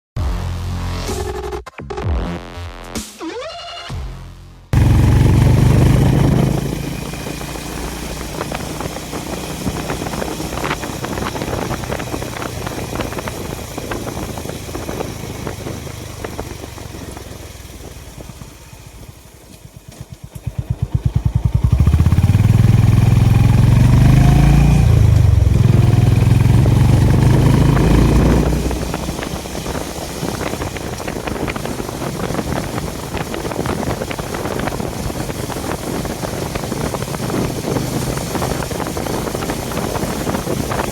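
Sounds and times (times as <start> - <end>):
motorcycle engine and exhaust: 4.8 - 40.9.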